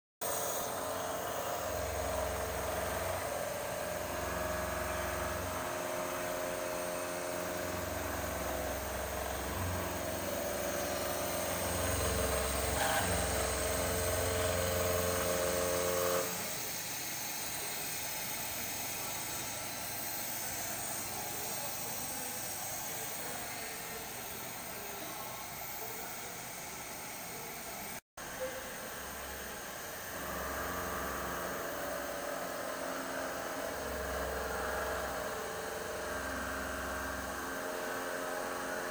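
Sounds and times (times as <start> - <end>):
machine hiss and hum: 0.2 - 38.9
milling machine cutting steel: 0.2 - 38.9.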